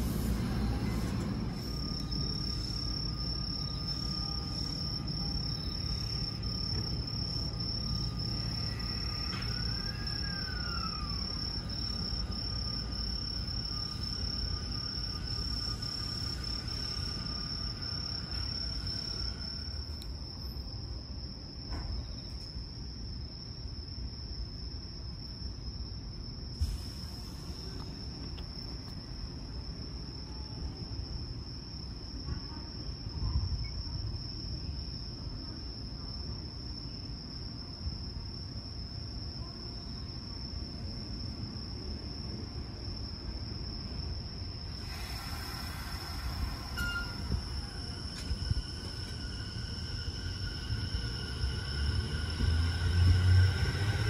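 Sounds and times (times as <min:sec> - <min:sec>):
night insects trilling: 0:00.0 - 0:54.0.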